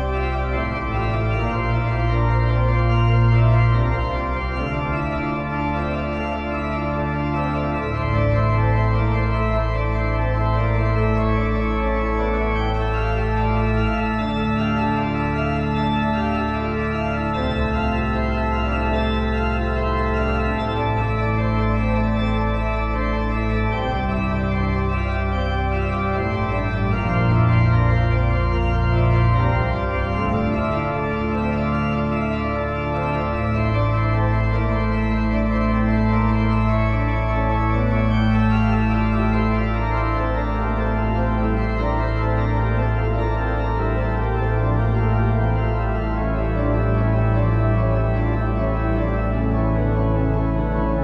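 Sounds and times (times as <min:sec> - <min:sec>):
slow sustained organ chords: 0:00.0 - 0:51.0.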